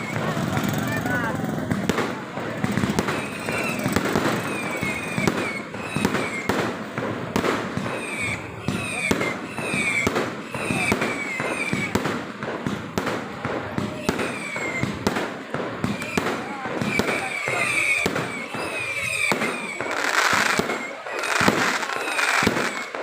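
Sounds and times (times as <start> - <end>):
fireworks bangs and crackles: 0.0 - 23.0
fireworks whistles falling in pitch: 0.0 - 23.0.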